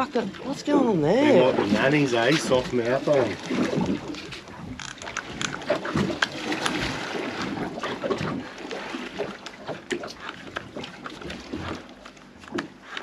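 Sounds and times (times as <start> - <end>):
small water splashes: 0.0 - 12.9
water slapping boat hull: 0.0 - 13.0.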